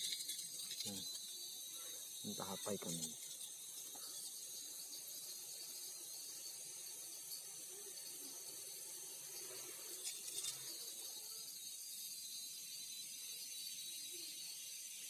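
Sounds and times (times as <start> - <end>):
insect chorus hiss: 0.0 - 15.0.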